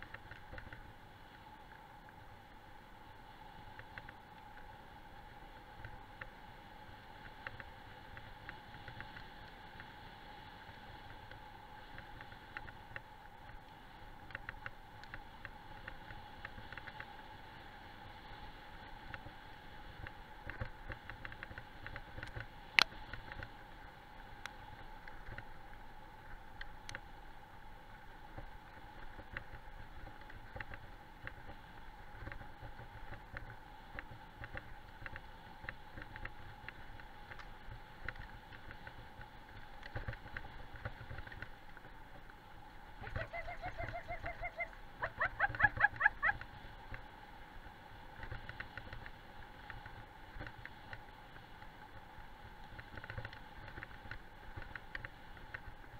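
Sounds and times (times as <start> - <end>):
small clicks and rattles: 0.0 - 0.9, 7.1 - 10.1, 10.7 - 17.4, 19.0 - 27.2, 28.3 - 47.2, 48.0 - 55.9
wheels rolling over gravel: 0.0 - 55.9.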